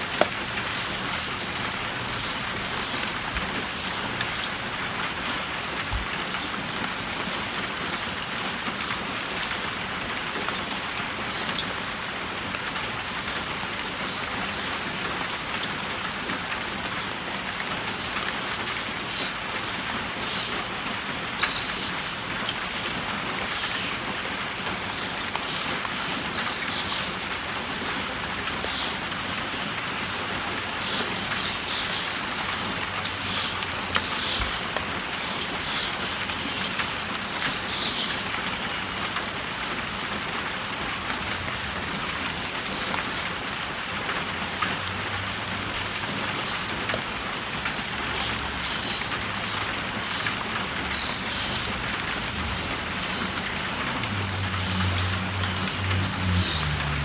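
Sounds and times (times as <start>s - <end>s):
rain on a tin roof: 0.0s - 57.0s.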